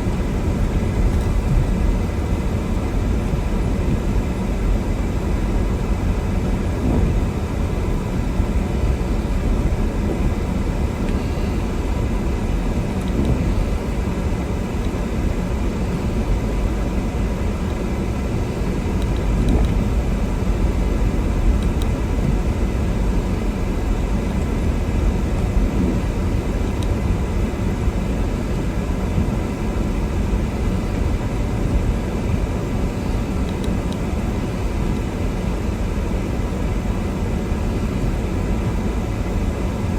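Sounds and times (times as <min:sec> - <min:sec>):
car engine rumble: 0:00.0 - 0:39.9
tyres on snowy road: 0:00.0 - 0:39.9.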